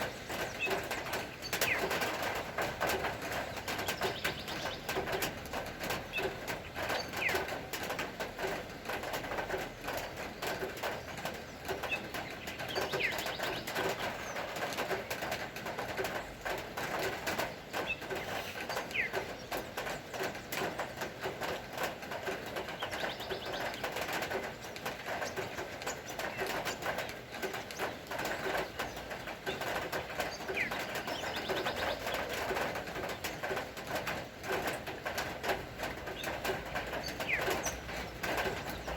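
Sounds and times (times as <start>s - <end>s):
birds calling: 0.0s - 8.0s, 9.8s - 35.2s, 35.9s - 38.9s
rain pattering: 0.0s - 38.9s.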